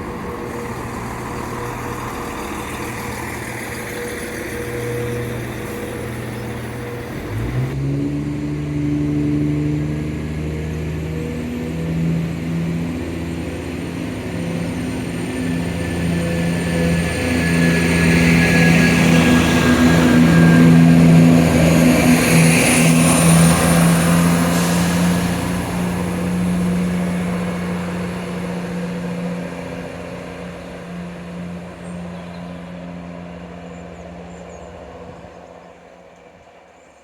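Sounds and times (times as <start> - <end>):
train passing with low hum: 0.0 - 37.0.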